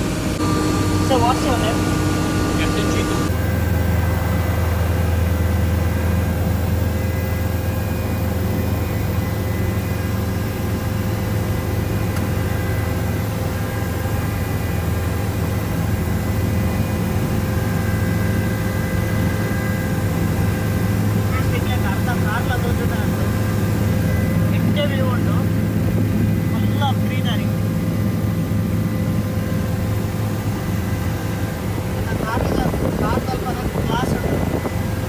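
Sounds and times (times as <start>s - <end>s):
helicopter engine and rotor drone: 0.0s - 35.0s
steady whining tones: 0.0s - 35.0s.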